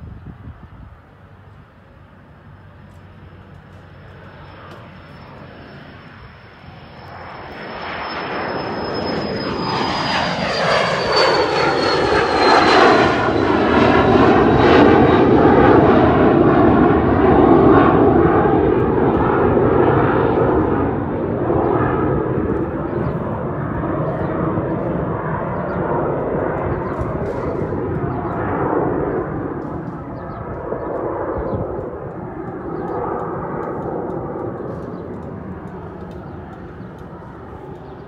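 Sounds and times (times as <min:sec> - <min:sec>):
high jet engine whine: 0:00.0 - 0:38.0
jet passing overhead: 0:00.0 - 0:38.0.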